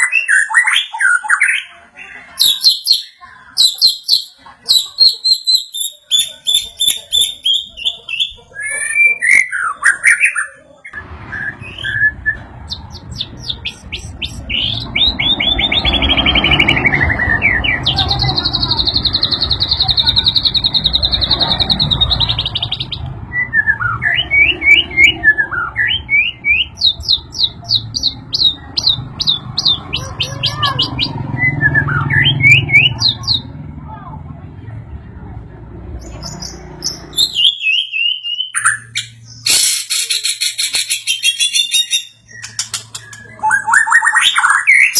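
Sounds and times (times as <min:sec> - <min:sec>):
bird singing whistled song: 0:02.4 - 0:33.4, 0:36.0 - 0:44.9.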